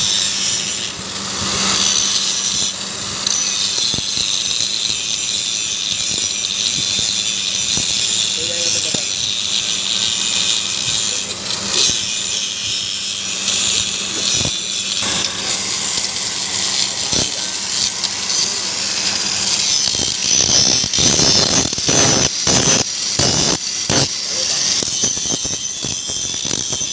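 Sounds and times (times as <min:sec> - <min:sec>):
power grinder grinding: 0:00.0 - 0:26.9.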